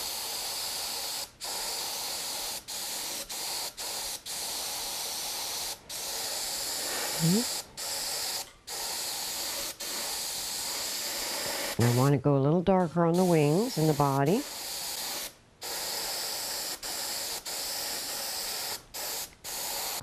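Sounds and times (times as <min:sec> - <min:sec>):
airbrush spraying hiss: 0:00.0 - 0:12.1, 0:12.8 - 0:20.0.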